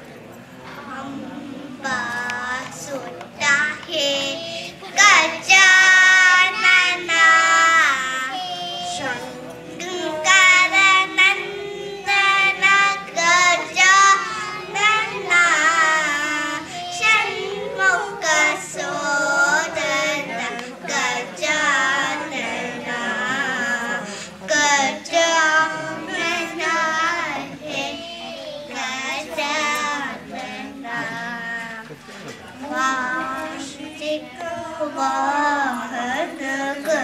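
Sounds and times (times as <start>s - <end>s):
girls singing: 0.6s - 37.0s.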